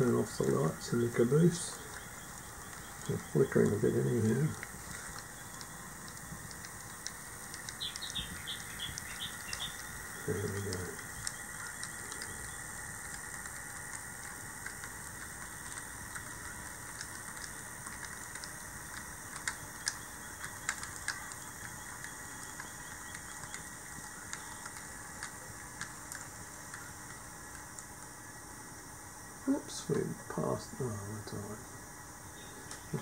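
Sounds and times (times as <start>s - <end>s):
model train wheels ticking: 0.0s - 28.1s
low hiss: 0.0s - 33.0s.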